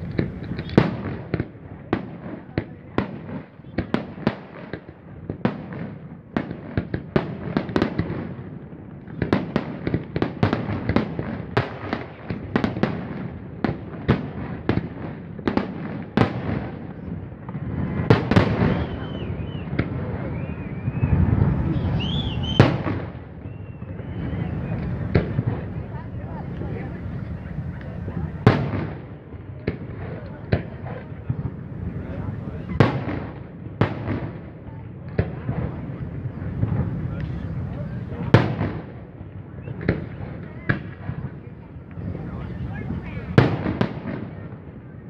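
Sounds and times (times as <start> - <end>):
fireworks bursting: 0.0 - 45.0.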